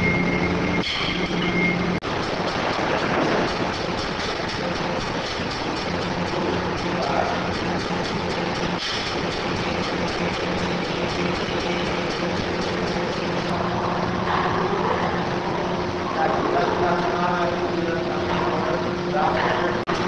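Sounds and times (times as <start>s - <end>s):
machinery hum: 0.0s - 20.0s
steady noise: 0.0s - 20.0s.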